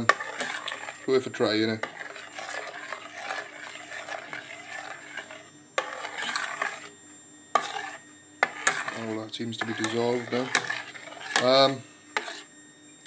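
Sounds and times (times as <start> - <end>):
stirring and scraping in a saucepan: 0.0 - 12.5.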